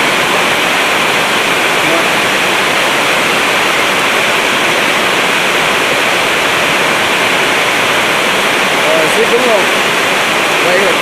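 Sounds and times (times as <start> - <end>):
loud rushing hiss: 0.0 - 11.0.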